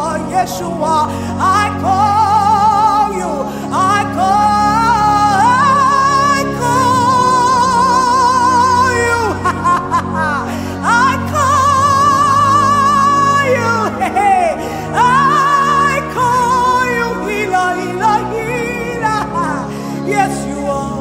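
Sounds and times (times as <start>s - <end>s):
sustained chords: 0.0s - 21.0s
wordless worship singing: 0.0s - 21.0s.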